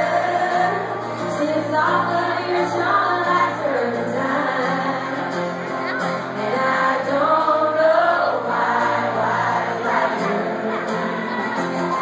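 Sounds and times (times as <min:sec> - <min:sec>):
female vocal trio singing: 0:00.0 - 0:05.2, 0:06.3 - 0:11.4
guitar: 0:00.0 - 0:12.0.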